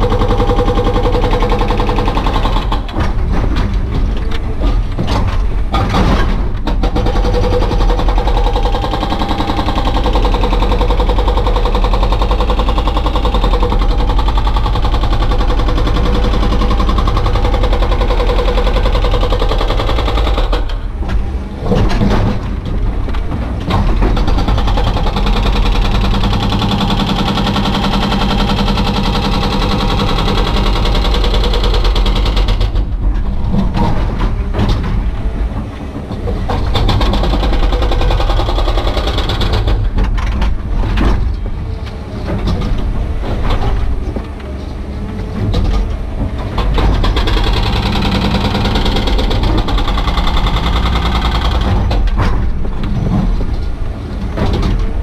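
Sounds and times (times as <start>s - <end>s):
hydraulic breaker hammering concrete: 0.0s - 41.4s, 46.1s - 53.5s
excavator engine running: 0.0s - 55.0s.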